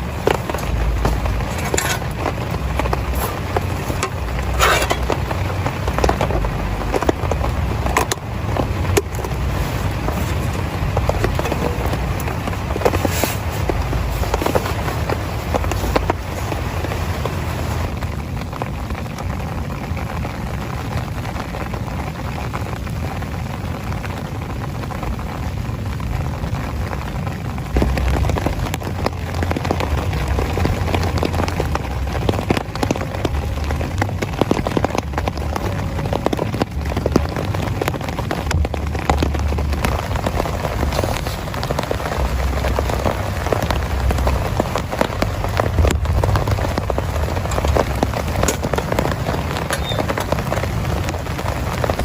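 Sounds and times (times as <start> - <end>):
heavy rain on a tent: 0.0 - 52.0
low uneven rumble: 0.0 - 52.0.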